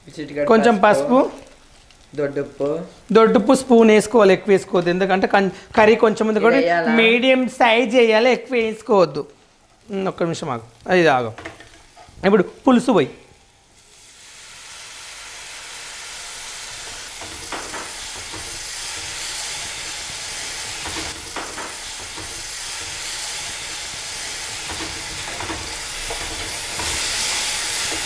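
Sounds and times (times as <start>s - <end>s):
liquid sizzling in hot pan: 0.0s - 28.0s.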